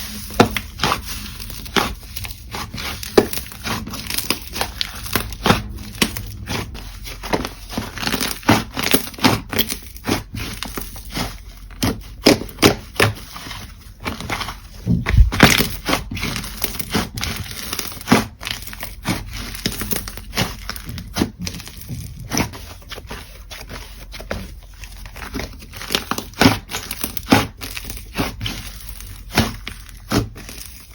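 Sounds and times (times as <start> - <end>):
slime squishing with sticky pops: 0.3 - 30.9.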